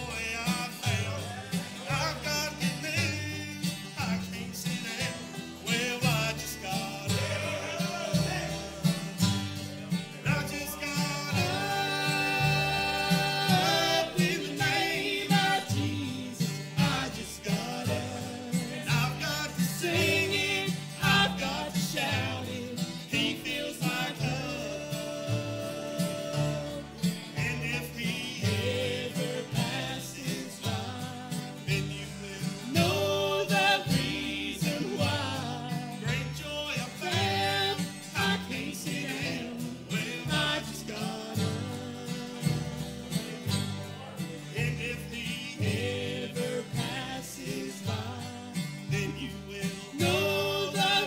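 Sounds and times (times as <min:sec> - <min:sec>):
acoustic guitars: 0:00.0 - 0:51.0
banjo: 0:00.0 - 0:51.0
man singing lead: 0:00.0 - 0:51.0
upright bass: 0:00.0 - 0:51.0.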